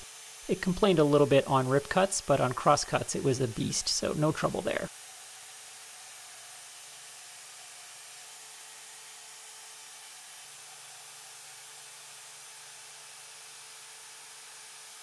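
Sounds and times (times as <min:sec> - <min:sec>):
bandsaw cutting wood: 0:00.0 - 0:15.0.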